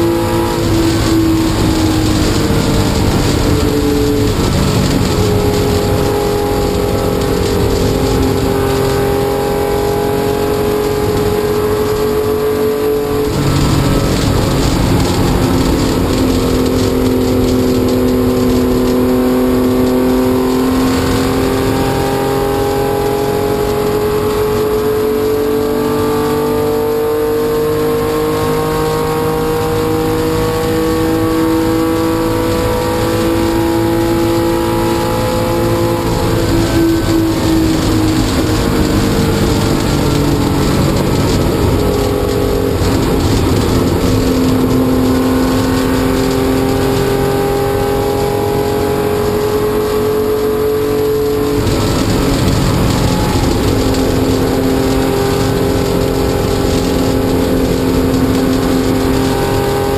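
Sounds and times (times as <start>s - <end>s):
race car engine running hard: 0.0s - 59.9s
wind and road noise: 0.0s - 59.9s.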